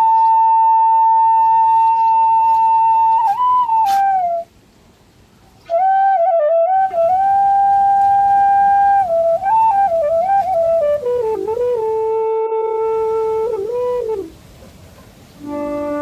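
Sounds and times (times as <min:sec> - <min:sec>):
slow solo flute melody: 0:00.0 - 0:04.5, 0:05.6 - 0:14.4, 0:15.4 - 0:16.0.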